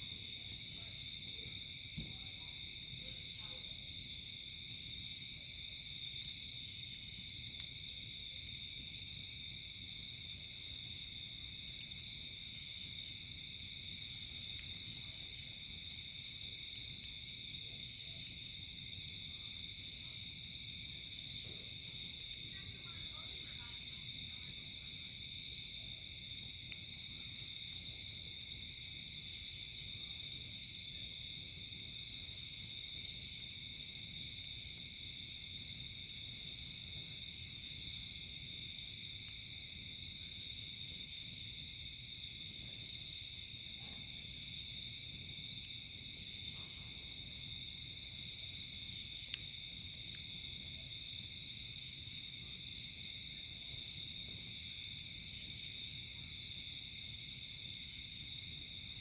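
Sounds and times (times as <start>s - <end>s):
night insects droning: 0.0s - 59.0s.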